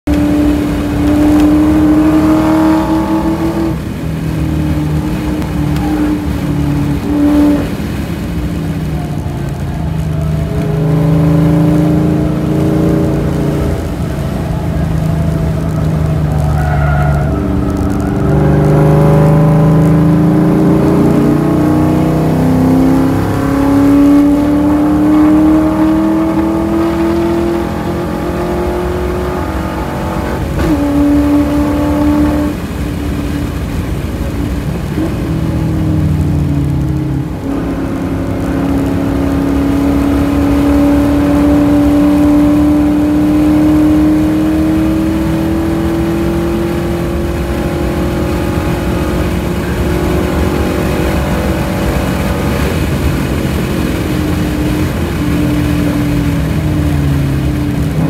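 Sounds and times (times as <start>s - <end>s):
car engine under hard driving: 0.0s - 58.0s
wind and tyre noise: 0.0s - 58.0s.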